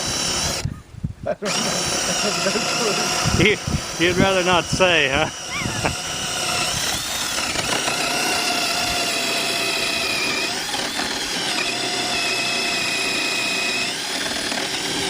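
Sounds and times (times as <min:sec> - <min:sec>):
power drill whining: 0:00.0 - 0:00.8, 0:01.4 - 0:15.0.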